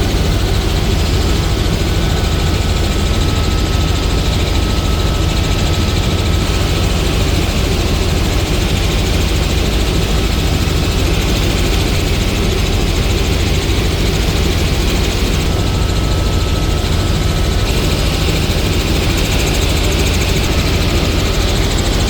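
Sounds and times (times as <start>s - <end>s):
helicopter rotor drone: 0.0s - 22.0s.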